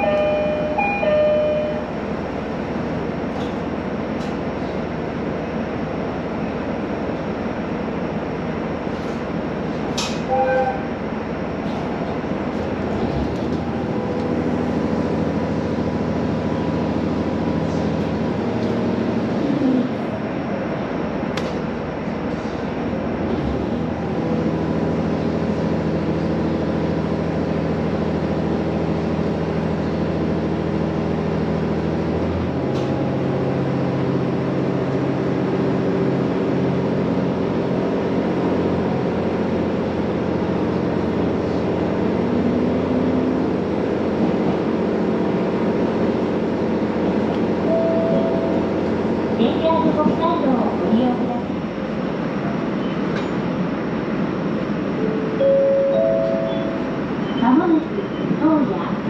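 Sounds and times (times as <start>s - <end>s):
railcar engine drone: 0.0s - 59.0s.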